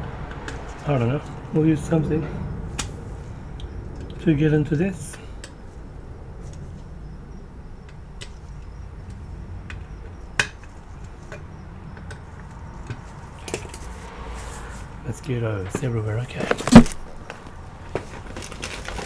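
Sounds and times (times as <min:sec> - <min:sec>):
low background rumble: 0:00.0 - 0:16.3.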